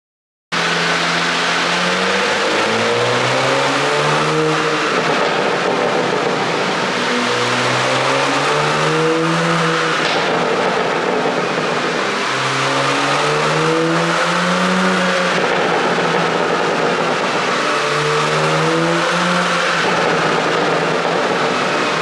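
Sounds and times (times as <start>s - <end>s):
car engine revving: 0.6s - 22.0s.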